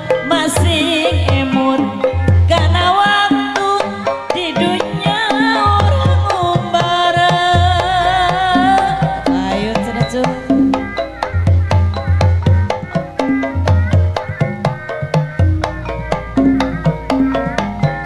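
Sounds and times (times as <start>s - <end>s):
gamelan: 0.0s - 18.0s
hand drums: 0.0s - 18.0s.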